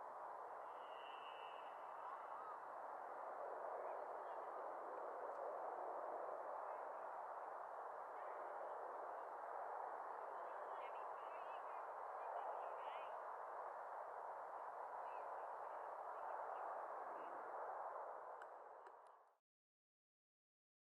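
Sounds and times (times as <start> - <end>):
faint rushing background noise: 0.0 - 19.0.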